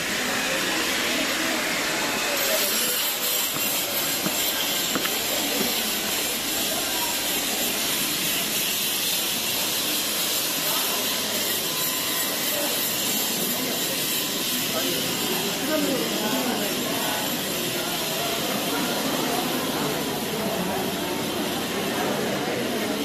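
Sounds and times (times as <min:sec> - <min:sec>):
faint indistinct voices: 0:00.0 - 0:23.0
steady loud hiss: 0:00.0 - 0:23.0.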